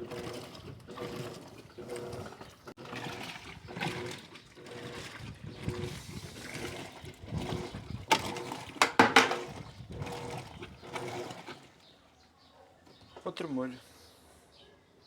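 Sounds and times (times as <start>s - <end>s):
water sloshing in washing machine: 0.0s - 12.2s.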